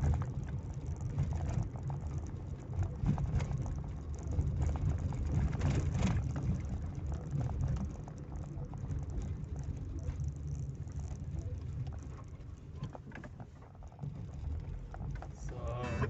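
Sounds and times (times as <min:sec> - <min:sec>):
small rattles and ticks: 0:00.0 - 0:15.6
road and engine rumble: 0:00.0 - 0:16.0.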